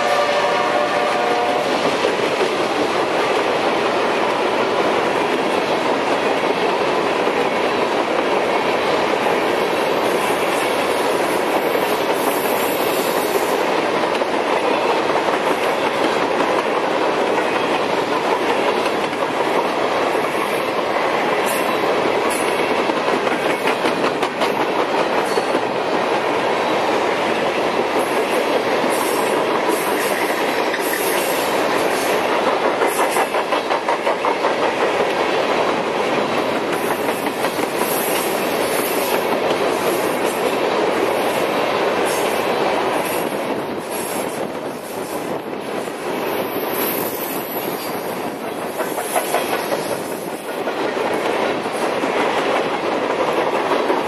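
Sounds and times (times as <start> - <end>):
clickety-clack over rail joints: 0.0 - 54.0
train wheels rolling on rail: 0.0 - 54.0.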